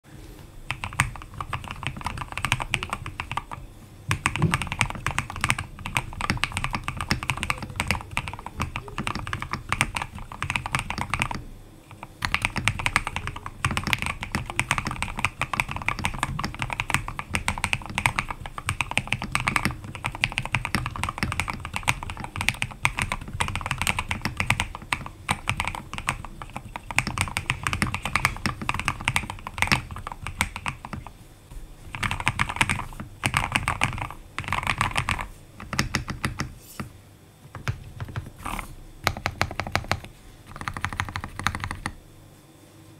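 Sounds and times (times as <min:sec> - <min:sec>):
mechanical keyboard typing: 0:00.7 - 0:31.1, 0:31.9 - 0:36.6, 0:37.5 - 0:42.0.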